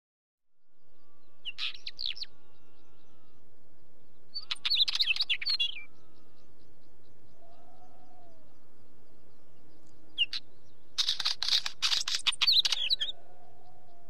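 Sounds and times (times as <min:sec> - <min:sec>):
bird singing: 0:00.5 - 0:14.0.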